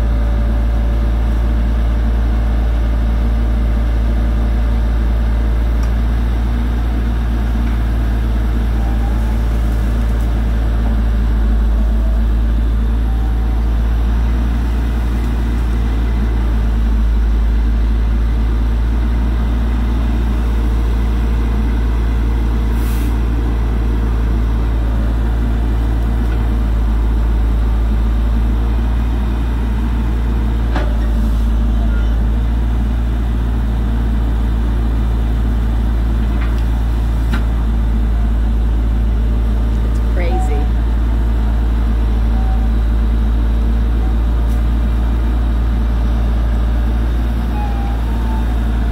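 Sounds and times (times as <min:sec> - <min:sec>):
diesel engine rumbling: 0:00.0 - 0:48.9.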